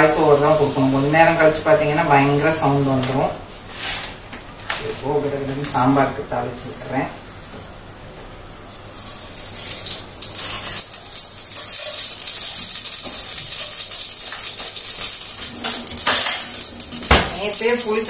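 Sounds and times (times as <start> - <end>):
seeds crackling in hot oil: 0.0 - 18.0.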